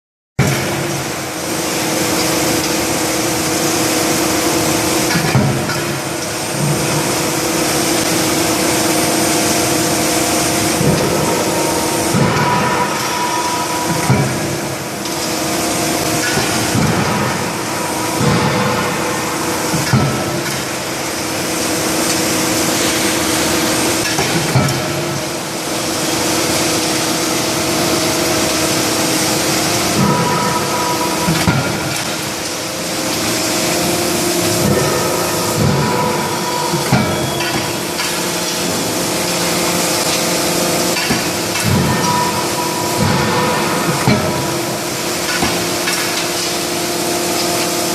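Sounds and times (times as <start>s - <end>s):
hydraulic hammer machinery humming: 0.4s - 47.9s.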